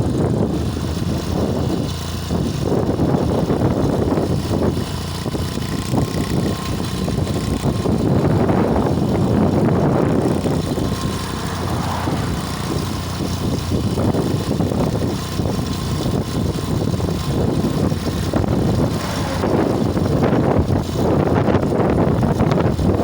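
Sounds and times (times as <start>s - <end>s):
passing traffic hum: 0.0s - 23.0s
wind noise on microphone: 0.0s - 23.0s.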